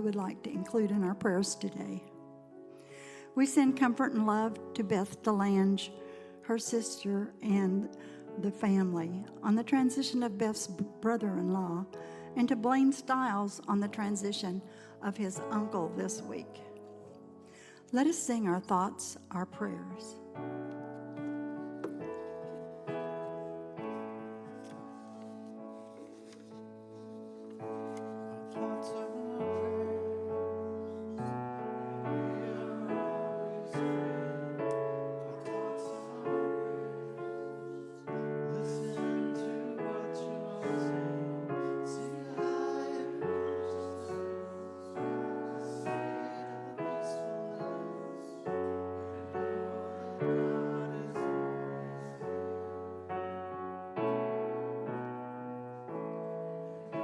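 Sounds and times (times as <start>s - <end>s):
slow gentle piano piece: 0.0s - 57.0s.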